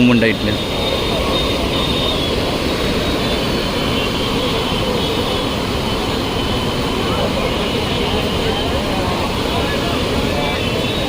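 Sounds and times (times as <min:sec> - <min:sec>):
river roaring: 0:00.0 - 0:11.0.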